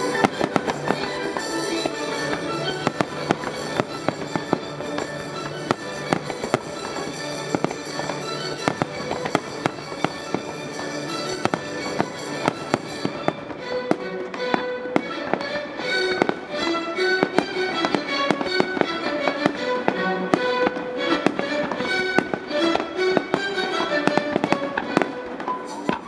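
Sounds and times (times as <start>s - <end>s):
fireworks bangs: 0.0s - 26.0s
music playing: 0.0s - 26.0s.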